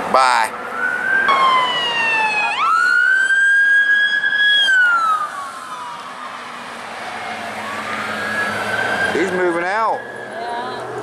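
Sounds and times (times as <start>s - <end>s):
police siren wailing: 0.3s - 11.0s.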